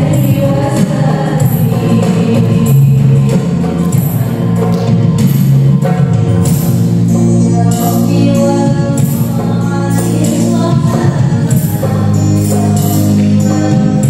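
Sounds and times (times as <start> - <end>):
voices singing devotional melody: 0.0 - 4.7, 7.0 - 14.0.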